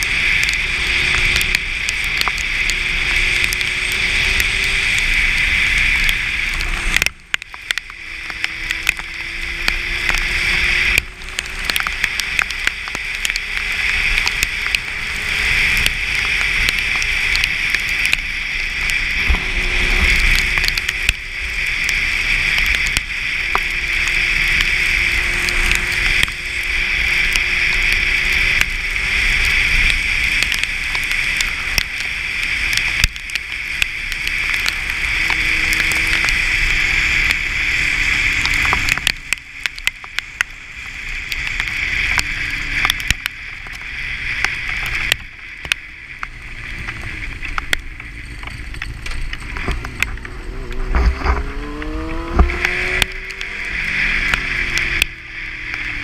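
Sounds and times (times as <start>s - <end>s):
tyre spray on wet road: 0.0s - 56.0s.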